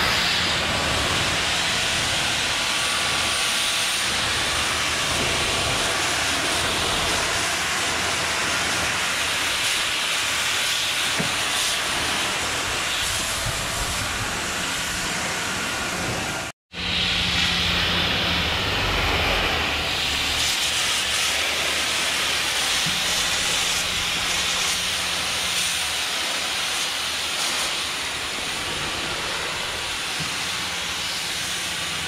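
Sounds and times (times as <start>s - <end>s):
pressure washer water jet hissing: 0.0s - 32.0s.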